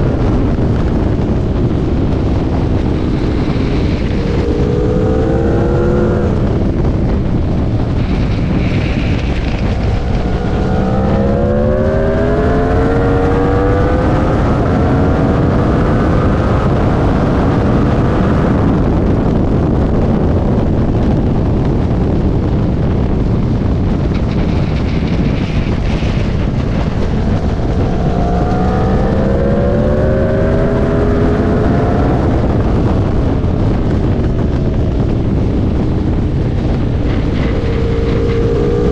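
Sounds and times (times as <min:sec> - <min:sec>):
motorcycle engine accelerating: 0:00.0 - 0:38.9
wind noise on microphone: 0:00.0 - 0:38.9.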